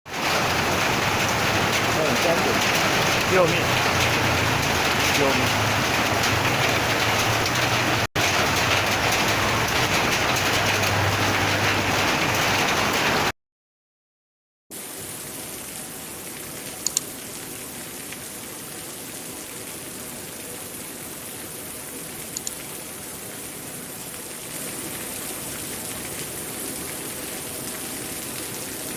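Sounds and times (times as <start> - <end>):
heavy rain pouring: 0.1 - 13.3, 14.8 - 28.9.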